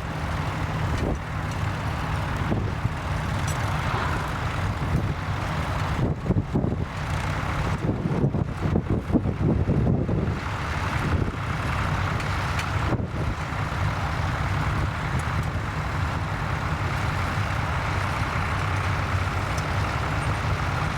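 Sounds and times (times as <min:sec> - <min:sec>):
tractor engine running: 0:00.0 - 0:20.9
wind buffeting microphone: 0:00.0 - 0:20.9.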